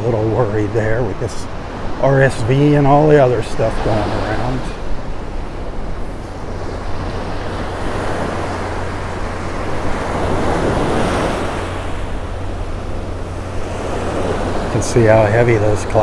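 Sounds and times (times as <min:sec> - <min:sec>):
surf breaking on beach: 0:00.0 - 0:16.0
wind rumble on microphone: 0:00.0 - 0:16.0.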